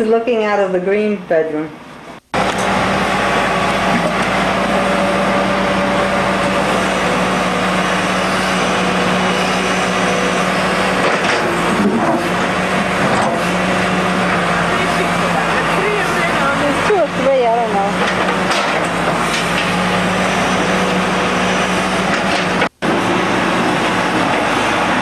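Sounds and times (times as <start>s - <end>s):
excavator diesel engine running: 0.6s - 25.0s.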